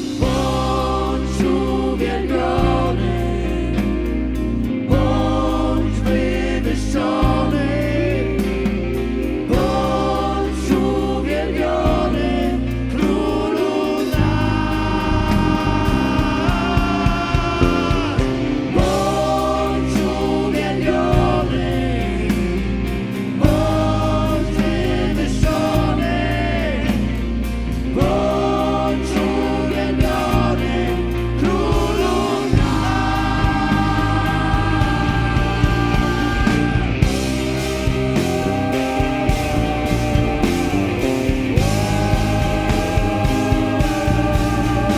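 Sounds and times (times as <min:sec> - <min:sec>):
voices singing together: 0:00.0 - 0:44.9
worship band music: 0:00.0 - 0:44.9.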